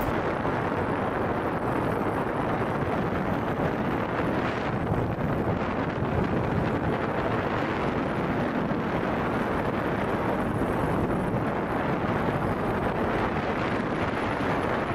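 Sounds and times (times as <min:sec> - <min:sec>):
rushing wind noise in aircraft: 0:00.0 - 0:14.9.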